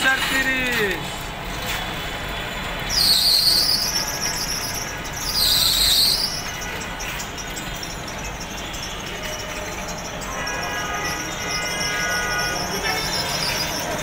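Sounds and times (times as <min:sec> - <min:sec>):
street noise: 0:00.0 - 0:14.0
loud high-pitched squeals: 0:01.7 - 0:14.0.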